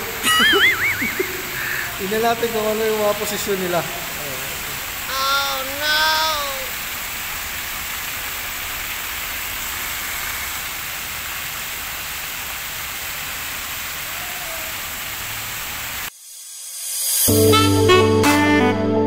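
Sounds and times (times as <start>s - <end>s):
fountain jets splashing: 0.0s - 16.1s.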